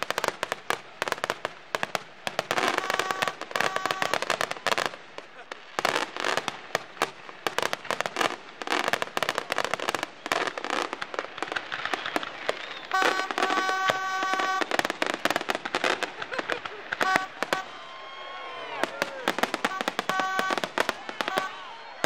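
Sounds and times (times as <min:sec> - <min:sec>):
fireworks cracks and bangs: 0:00.0 - 0:22.0.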